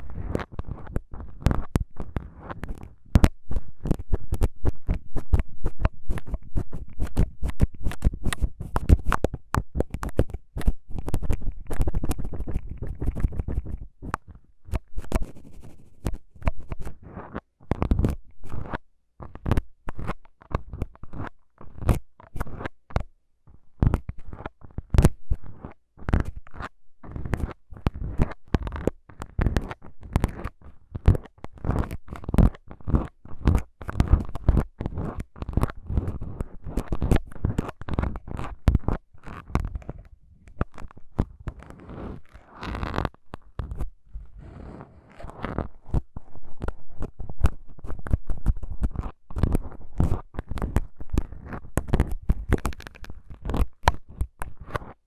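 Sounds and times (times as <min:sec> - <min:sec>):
syringe clicking and scratching: 0:00.0 - 0:23.1, 0:23.8 - 0:44.0, 0:45.1 - 0:55.0.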